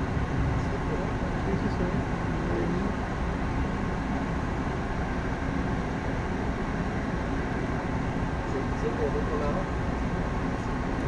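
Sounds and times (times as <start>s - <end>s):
jet engine and airflow noise: 0.0s - 11.0s.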